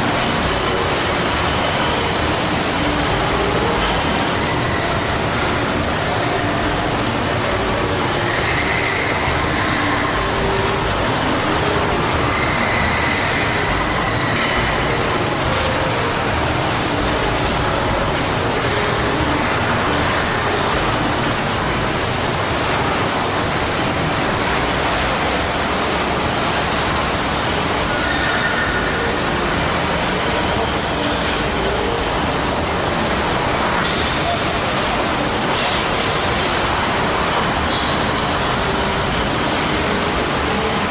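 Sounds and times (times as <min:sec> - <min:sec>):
conveyor machinery rumble: 0:00.0 - 0:40.9.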